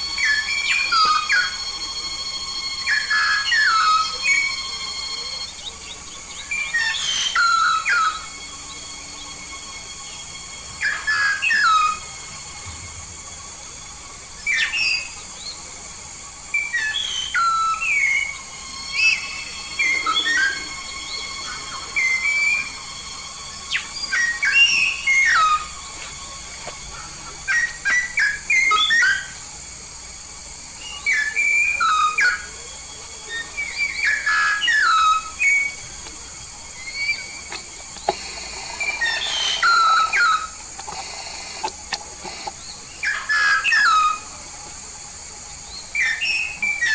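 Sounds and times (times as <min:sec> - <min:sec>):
myna whistling and chattering: 0:00.0 - 0:12.6, 0:16.6 - 0:29.5, 0:30.8 - 0:46.9.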